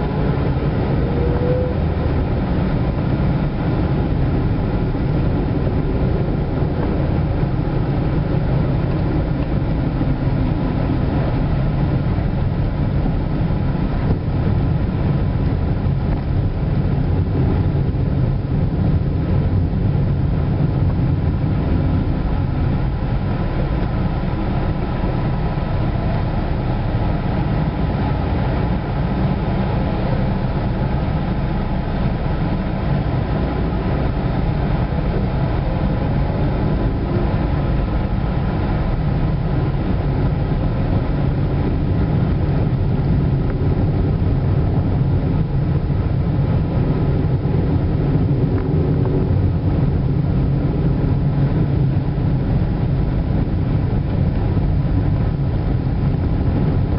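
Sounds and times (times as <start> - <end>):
car engine and road noise: 0.0 - 56.9.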